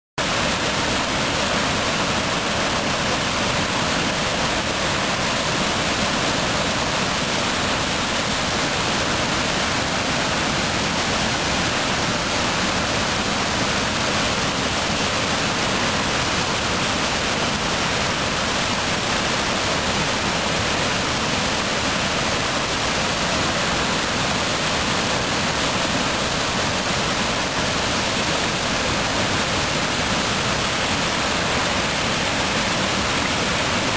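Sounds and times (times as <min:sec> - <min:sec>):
water rushing over weir: 0:00.2 - 0:33.9.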